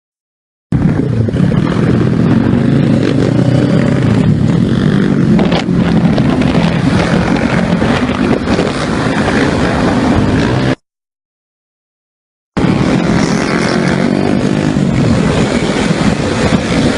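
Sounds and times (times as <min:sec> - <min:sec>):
motorcycle engines running: 0:00.8 - 0:10.8, 0:12.6 - 0:16.9.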